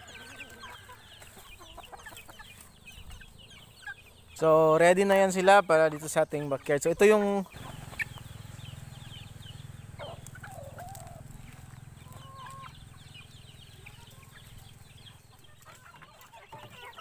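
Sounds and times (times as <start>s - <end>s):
chickens clucking softly: 0.0s - 17.0s
chicks peeping: 0.0s - 17.0s.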